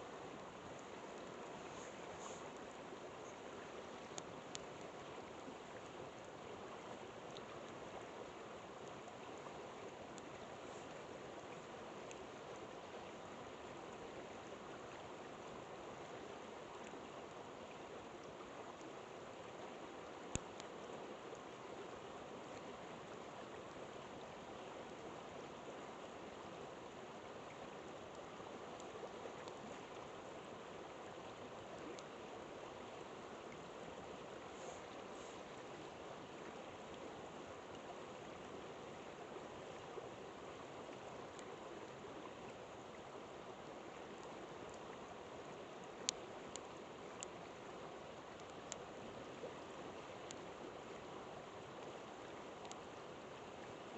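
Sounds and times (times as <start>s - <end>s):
river flowing: 0.0s - 53.9s.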